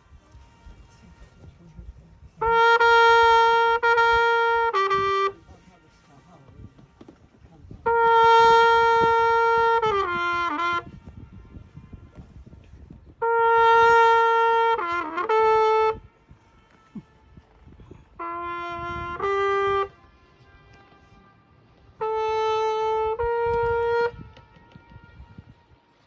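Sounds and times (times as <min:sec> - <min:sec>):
brass horn held notes: 0:00.0 - 0:26.0.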